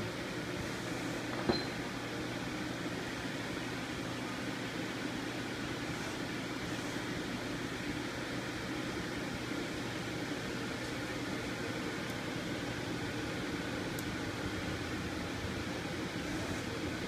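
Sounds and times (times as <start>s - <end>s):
lathe running with steady hum: 0.0s - 17.0s.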